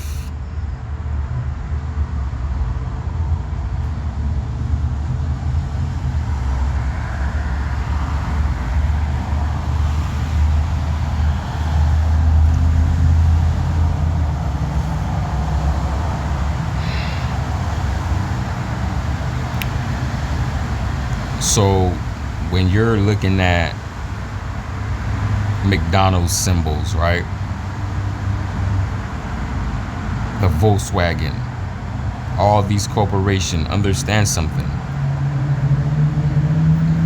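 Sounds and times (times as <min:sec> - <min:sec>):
road vehicle rumble: 0:00.0 - 0:37.0.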